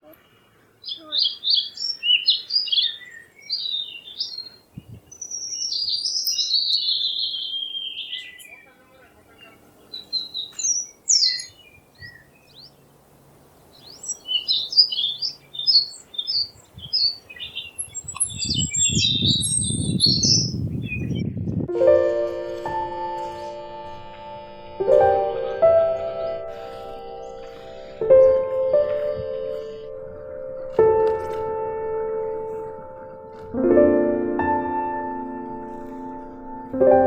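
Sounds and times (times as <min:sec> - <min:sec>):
birds chirping and singing: 0:00.1 - 0:21.6, 0:22.7 - 0:33.6.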